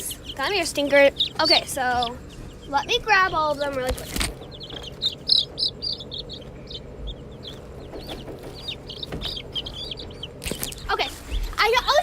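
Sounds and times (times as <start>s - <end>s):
baby chicks peeping: 0.0s - 12.0s.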